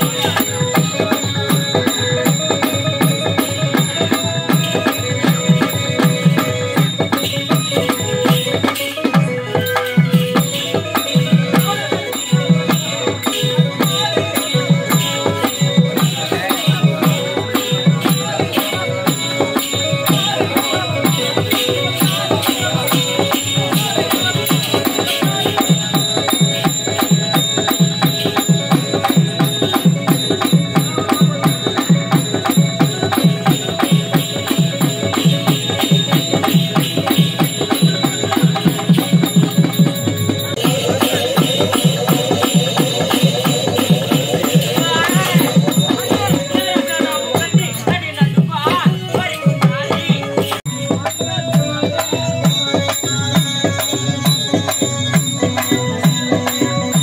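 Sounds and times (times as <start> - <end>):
rattling jingles: 0.0 - 47.9
hand drums beating: 0.0 - 57.0
harmonium drone: 0.0 - 57.0.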